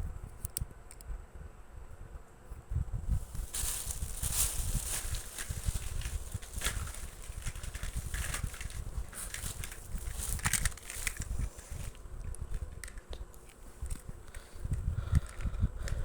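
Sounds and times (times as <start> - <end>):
clicks and crackles: 0.4 - 1.1, 3.3 - 16.0
low uneven rumble: 2.9 - 16.0.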